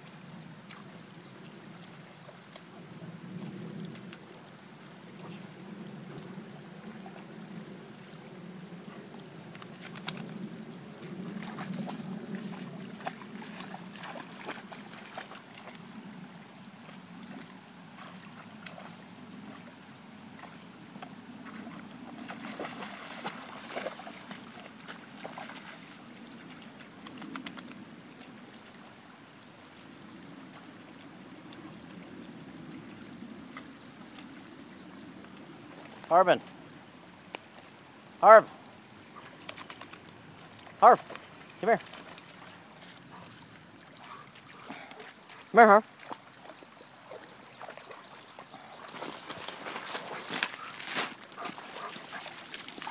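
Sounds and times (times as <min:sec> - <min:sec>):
creek water trickling: 0:00.0 - 0:52.9
dog wading splashes: 0:00.1 - 0:52.9.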